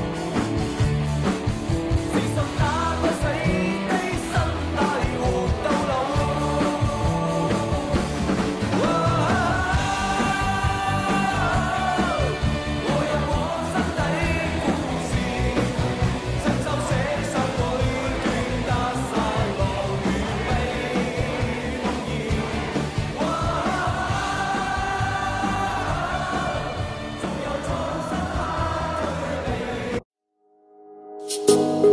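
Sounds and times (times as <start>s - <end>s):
rock music with singing: 0.0s - 30.0s.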